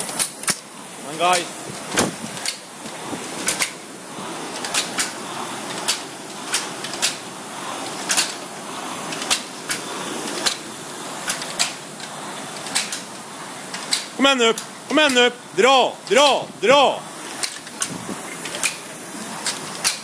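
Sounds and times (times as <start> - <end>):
rowing machine fan whooshing: 0.0 - 20.0.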